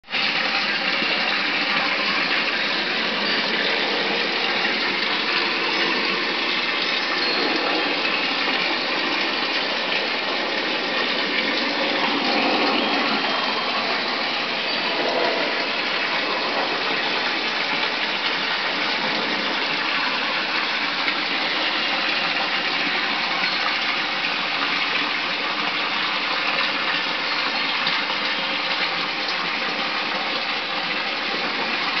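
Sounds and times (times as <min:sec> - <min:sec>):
running water gushing: 0:00.0 - 0:32.0.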